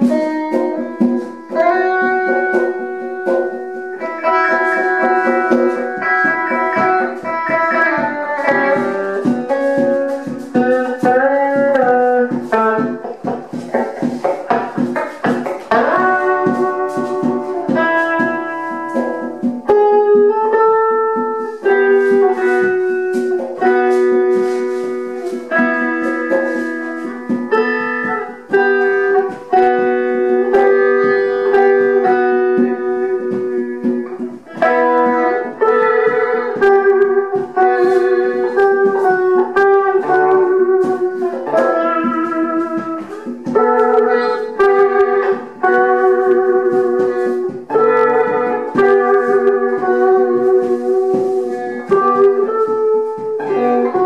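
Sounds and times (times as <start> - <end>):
solo guitar plucked notes: 0.0 - 54.0.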